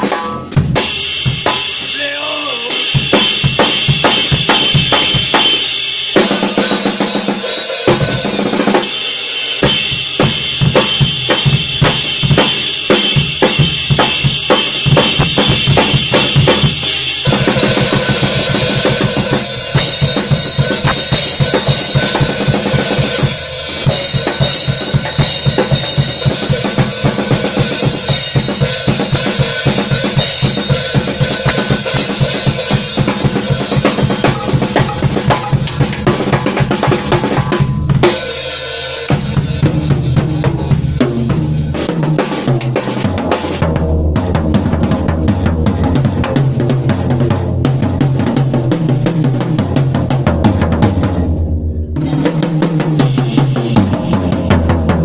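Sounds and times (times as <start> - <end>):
drum kit solo: 0.0 - 55.0.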